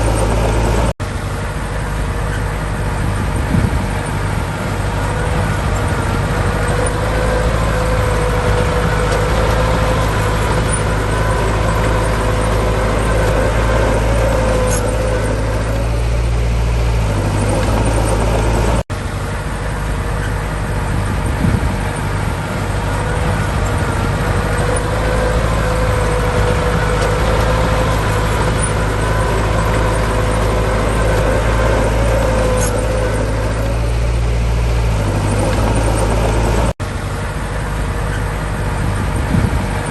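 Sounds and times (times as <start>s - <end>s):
heavy diesel machinery running: 0.0s - 39.9s
steady whine: 0.0s - 39.9s.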